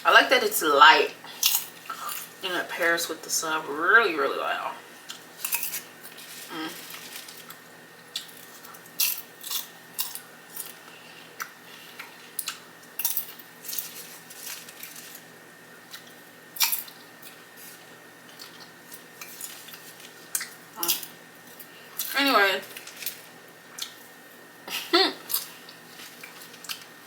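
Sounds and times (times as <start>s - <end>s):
chewing crunchy sandwich: 1.3s - 2.4s, 5.0s - 24.2s, 25.2s - 27.0s.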